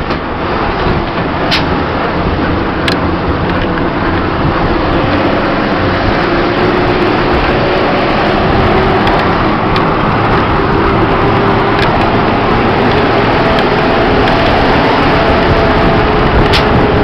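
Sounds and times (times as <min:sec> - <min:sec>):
bus engine hum: 0:00.0 - 0:17.0
bus road noise rushing: 0:00.0 - 0:17.0.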